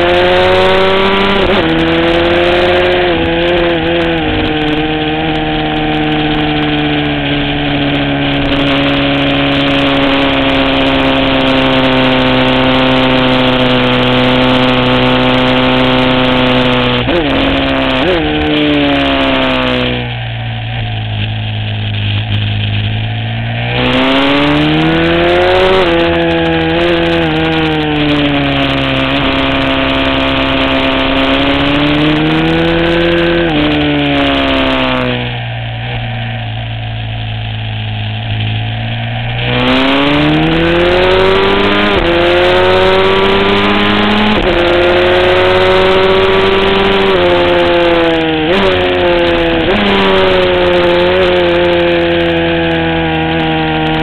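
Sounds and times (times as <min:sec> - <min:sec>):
motorcycle engine running hard: 0:00.0 - 0:54.0.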